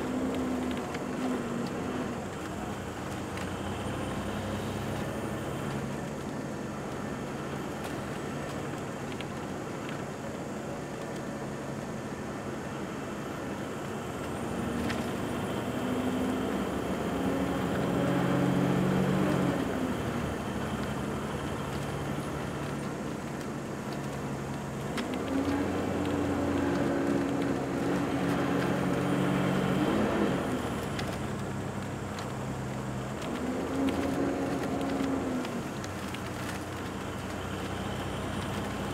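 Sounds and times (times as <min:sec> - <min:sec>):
road noise: 0:00.0 - 0:38.9
vehicle engine hum: 0:00.0 - 0:38.9.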